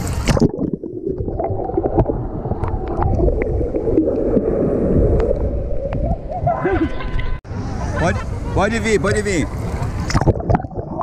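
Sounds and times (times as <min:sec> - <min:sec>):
underwater rush and gurgling: 0:00.0 - 0:11.0.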